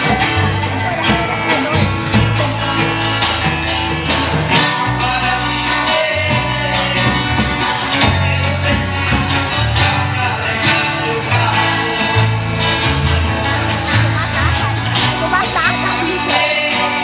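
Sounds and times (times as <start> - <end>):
bass line: 0.0 - 17.0
guitar: 0.0 - 17.0
person singing: 0.0 - 17.0.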